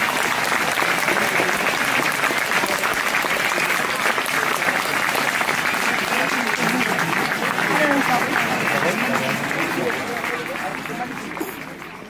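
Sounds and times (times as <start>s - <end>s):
crowd applauding: 0.0s - 12.0s
voices: 0.7s - 12.0s.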